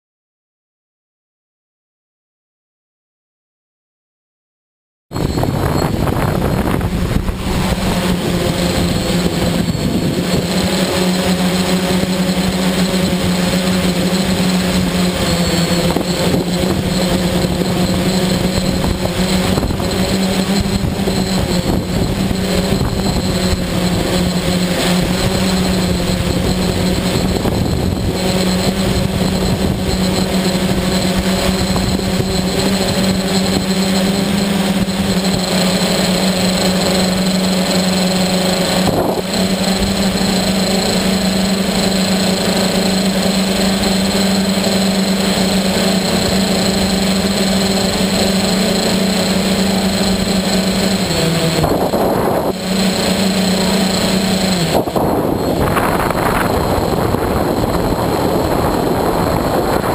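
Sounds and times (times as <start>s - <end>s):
drone propellers buzzing: 5.1s - 59.9s.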